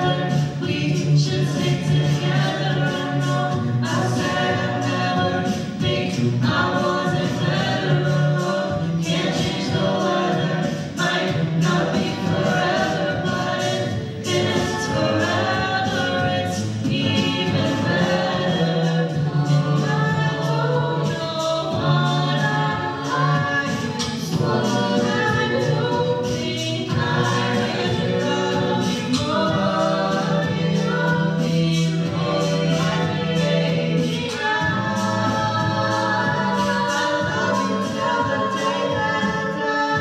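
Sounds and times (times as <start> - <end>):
a cappella group singing: 0.0 - 40.0.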